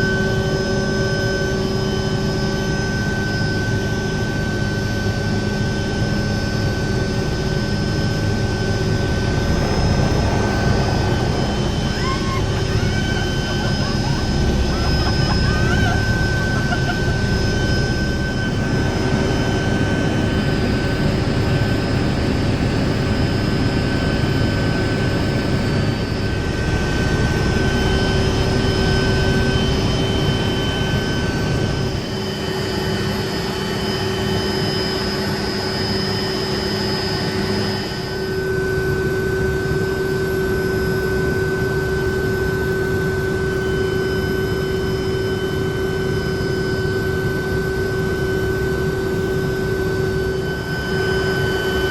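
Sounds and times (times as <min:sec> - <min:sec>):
high whining tones: 0:00.0 - 0:23.0, 0:24.7 - 0:51.9
helicopter rotor and turbine rumble: 0:00.0 - 0:51.9.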